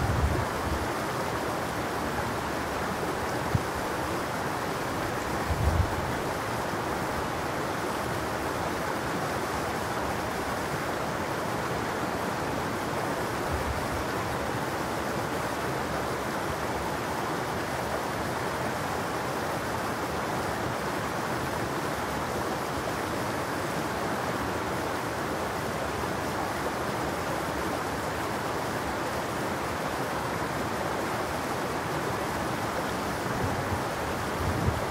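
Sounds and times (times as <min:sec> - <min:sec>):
stream babbling over rocks: 0:00.0 - 0:34.9.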